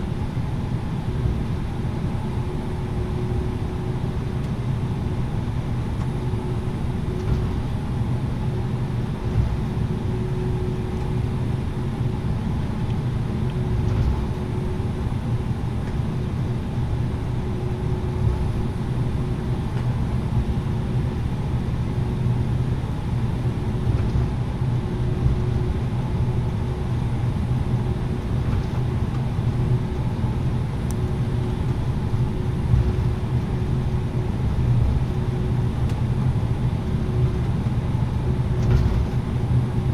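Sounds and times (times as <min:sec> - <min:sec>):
aircraft engines and wheels rumbling: 0:00.0 - 0:39.9.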